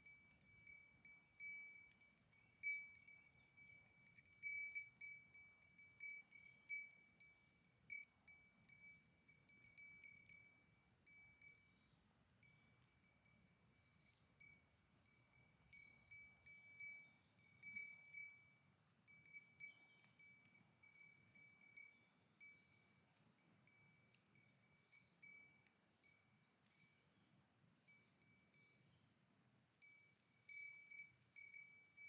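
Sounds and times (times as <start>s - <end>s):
faint cow bell clinking: 0.0s - 32.0s.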